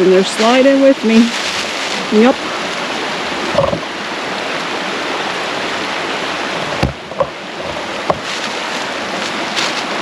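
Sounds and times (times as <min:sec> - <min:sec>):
creek water rushing over rapids: 0:00.0 - 0:10.0.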